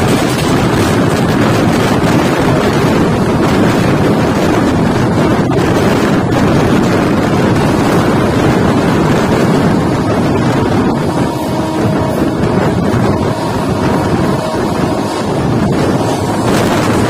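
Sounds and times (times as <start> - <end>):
wheel-on-rail noise: 0.0 - 17.0
wind buffeting microphone: 0.0 - 17.0
wind rushing: 0.0 - 17.0.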